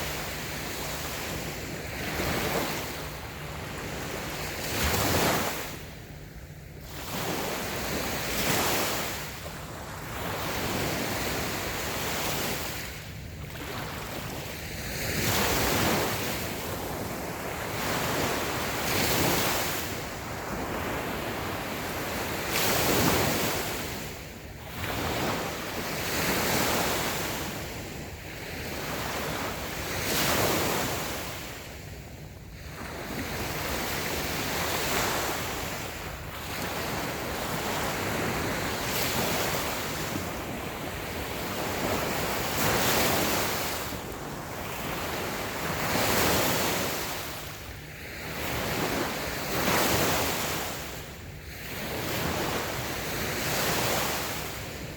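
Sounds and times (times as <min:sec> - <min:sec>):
small waves washing on sand: 0:00.0 - 0:06.1, 0:06.8 - 0:54.9.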